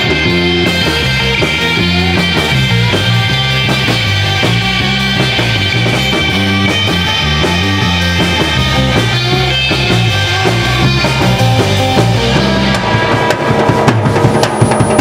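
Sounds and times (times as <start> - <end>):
surf rock band playing: 0.0 - 15.0.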